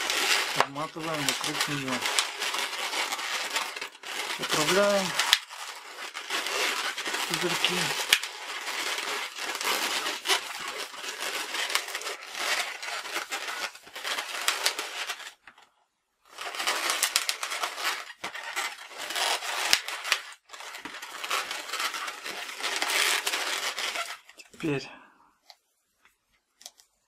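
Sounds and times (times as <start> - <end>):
balloon rubbing: 0.0 - 15.4, 16.3 - 24.8.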